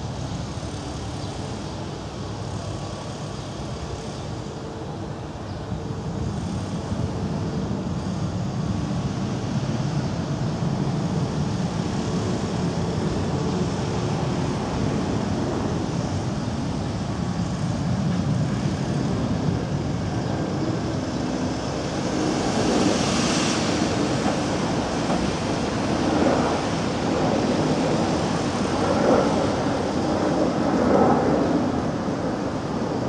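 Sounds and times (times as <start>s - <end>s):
street traffic noise: 0.0s - 33.0s.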